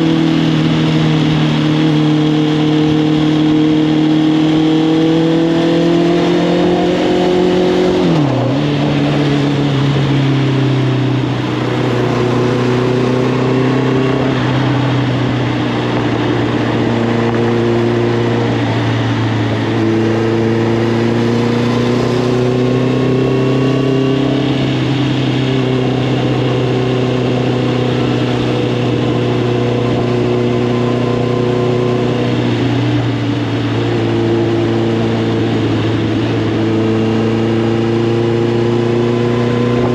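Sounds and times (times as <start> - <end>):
motorcycle engine: 0.0 - 39.9
road noise: 0.0 - 39.9
wind noise: 0.0 - 39.9.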